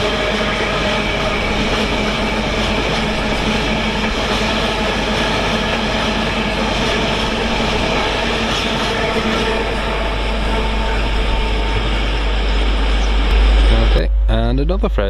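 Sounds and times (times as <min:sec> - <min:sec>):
freight train passing: 0:00.0 - 0:14.8.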